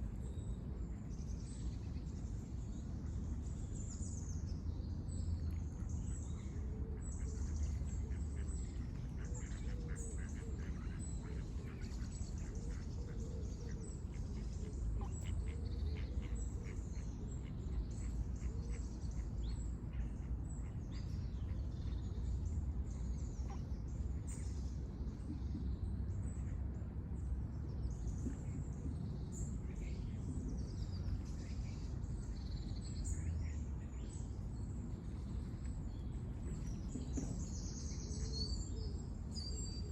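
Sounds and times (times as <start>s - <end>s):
low background rumble: 0.0s - 39.9s.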